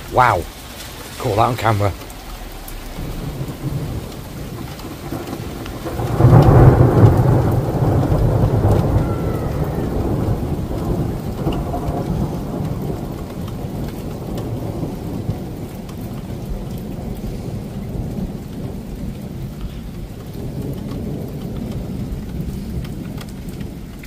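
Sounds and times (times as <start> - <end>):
rain falling on street: 0.0 - 24.0
thunder rumbling: 0.0 - 24.0.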